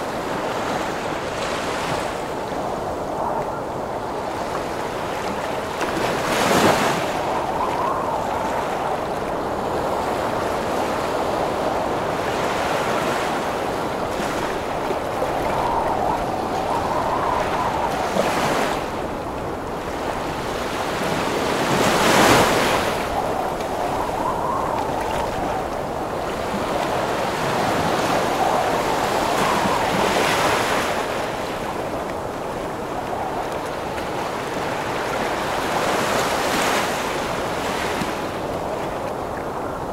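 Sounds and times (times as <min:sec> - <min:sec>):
gusting storm wind: 0:00.0 - 0:39.9
ocean waves crashing: 0:00.0 - 0:39.9.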